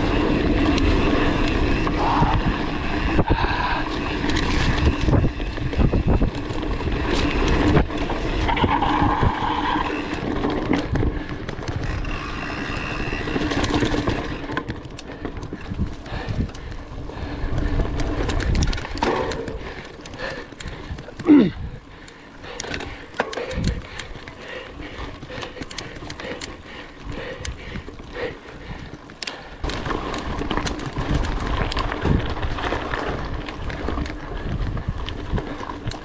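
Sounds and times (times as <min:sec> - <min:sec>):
bike clicks and rattles: 0:00.0 - 0:36.0
bike tyres rumbling on dirt: 0:00.0 - 0:36.0.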